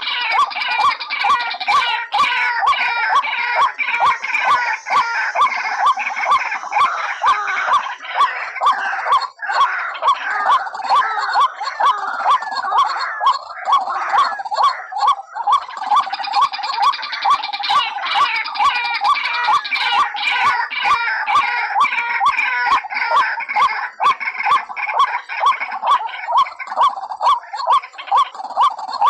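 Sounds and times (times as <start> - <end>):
overlapping waterhen calls: 0.0 - 29.0
waterhen calling: 0.0 - 29.0.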